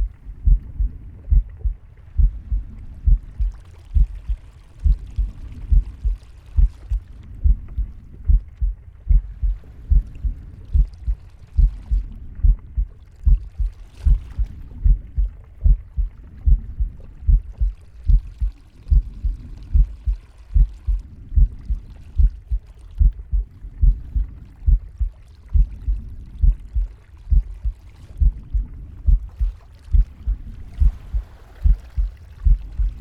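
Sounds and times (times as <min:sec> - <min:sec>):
heartbeat thumps: 0:00.0 - 0:33.0.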